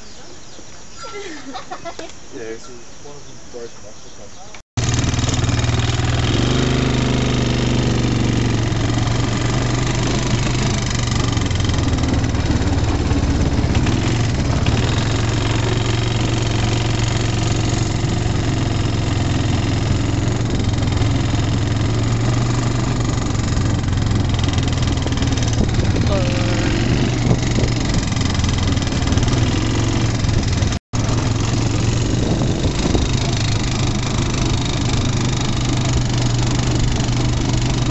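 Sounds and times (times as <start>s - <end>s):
quad bike engine running: 4.8s - 37.9s.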